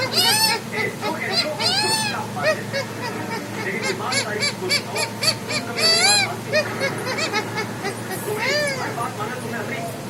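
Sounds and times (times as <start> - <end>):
parrot laughing: 0.0 - 9.2.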